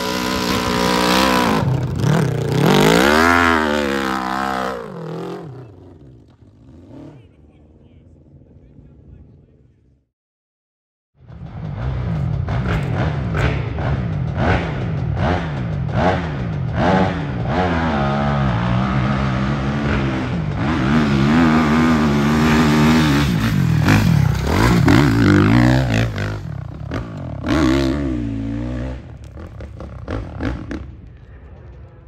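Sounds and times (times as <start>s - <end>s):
dirt bike engine revving: 0.0s - 7.6s, 11.2s - 31.0s.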